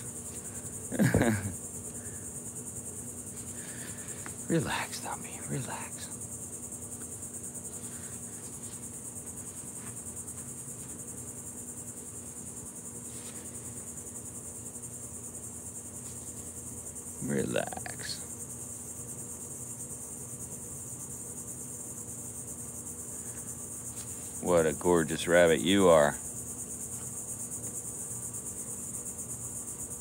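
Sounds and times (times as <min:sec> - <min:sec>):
faint low hum: 0:00.0 - 0:30.0
insects chirring: 0:00.0 - 0:30.0.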